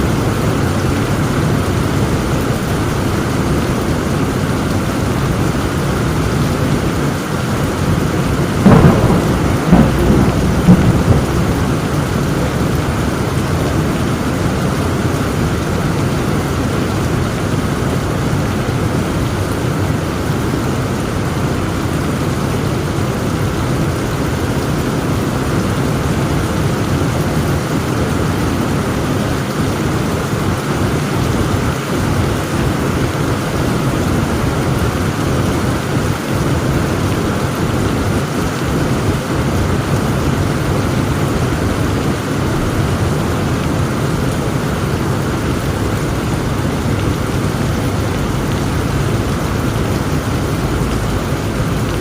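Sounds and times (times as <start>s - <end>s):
thunder crack and rumble: 0.0s - 18.3s, 23.2s - 52.0s
heavy rain falling: 0.0s - 52.0s.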